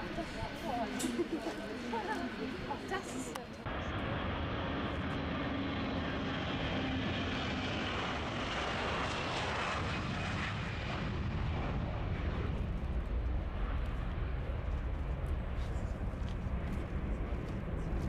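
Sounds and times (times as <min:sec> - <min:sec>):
jet airliner taking off: 0:00.0 - 0:18.0.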